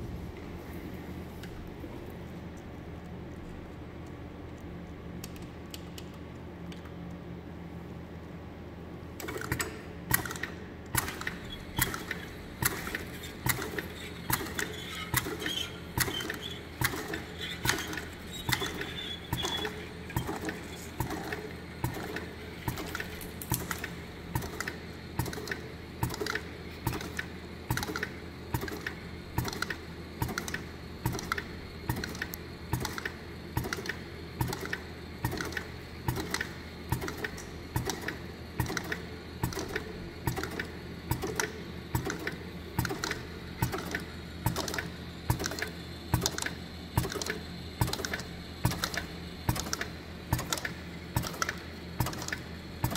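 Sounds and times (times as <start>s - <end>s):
machine low hum: 0.0s - 52.9s
taping machine clacking: 9.2s - 52.9s.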